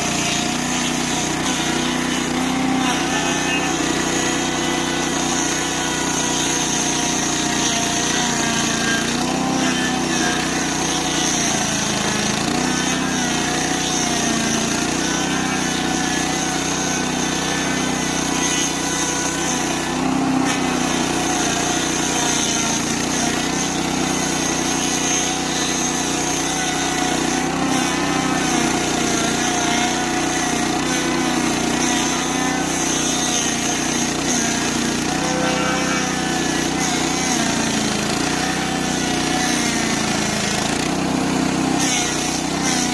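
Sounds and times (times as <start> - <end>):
cutter wheel grinding stump: 0.0 - 42.9
stump grinder engine running: 0.0 - 42.9.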